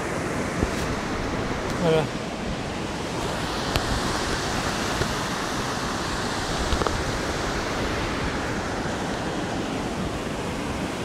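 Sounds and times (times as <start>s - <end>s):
mountain torrent rushing: 0.0s - 11.0s.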